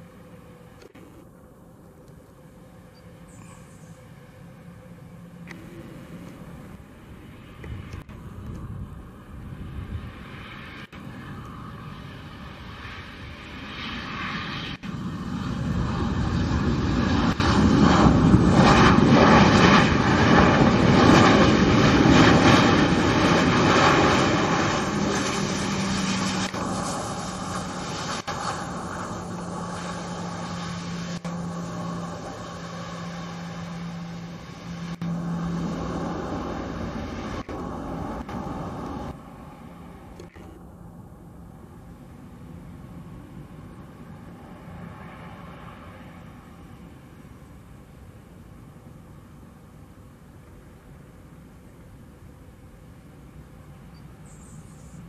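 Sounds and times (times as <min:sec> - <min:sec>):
jet engines rolling past: 0:00.0 - 0:55.0
steady low hum: 0:00.0 - 0:55.0.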